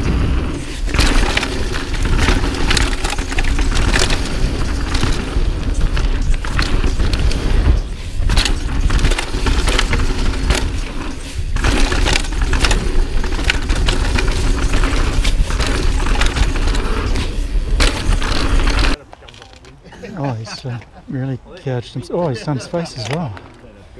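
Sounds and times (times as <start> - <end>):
bike knocks and rattles: 0.0 - 19.5
bike tyres on dirt and rocks: 0.0 - 23.9.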